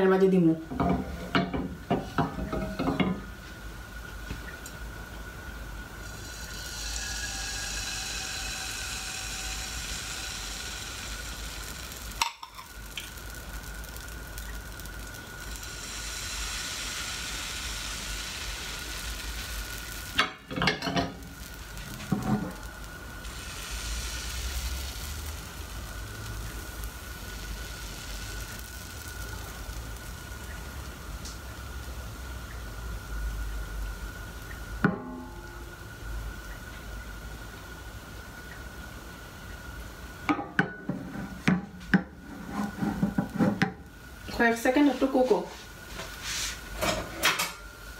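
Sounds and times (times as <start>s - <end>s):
batter sizzling in frying pan: 0.0s - 47.9s.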